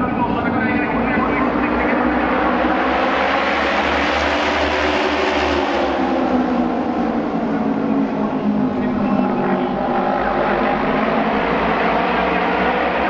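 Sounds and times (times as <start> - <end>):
racing motorcycle engines droning: 0.0 - 13.0.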